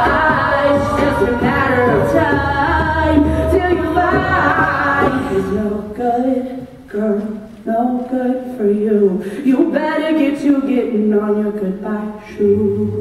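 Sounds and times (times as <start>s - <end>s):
close vocal harmonies: 0.0s - 13.0s
female lead voice singing: 0.0s - 13.0s.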